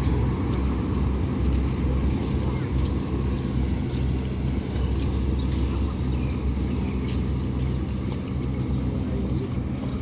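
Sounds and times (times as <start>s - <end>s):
diesel train engine idling: 0.0s - 10.0s.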